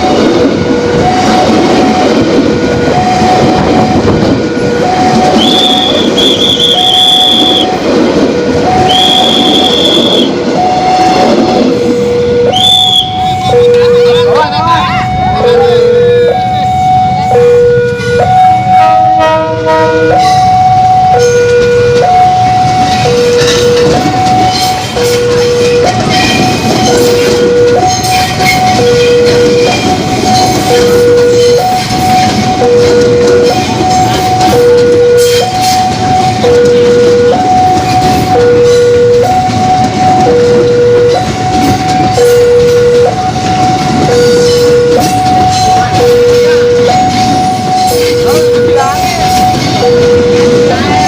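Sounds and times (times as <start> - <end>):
level crossing alarm: 0.0 - 51.0
train passing: 0.0 - 51.0.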